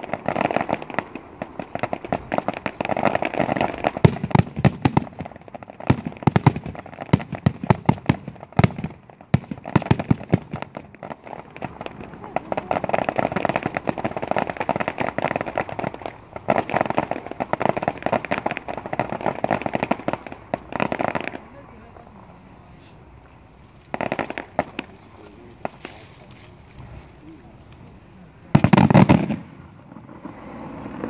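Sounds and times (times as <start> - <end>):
fireworks dense crackle: 0.0 - 31.0
fireworks sharp bangs: 0.0 - 31.0.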